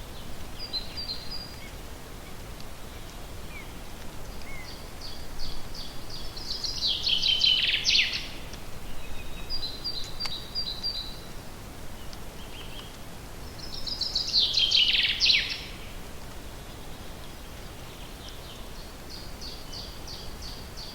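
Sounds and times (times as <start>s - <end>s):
steady background hiss: 0.0s - 20.9s
songbird singing trill: 0.2s - 1.8s, 4.4s - 11.4s, 12.0s - 16.0s, 16.7s - 20.9s.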